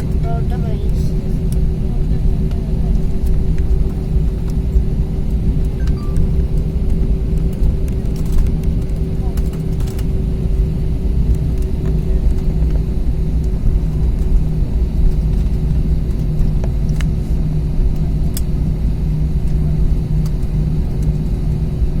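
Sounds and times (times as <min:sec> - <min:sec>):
airplane cabin rumble: 0:00.0 - 0:22.0
engine hum: 0:00.0 - 0:22.0.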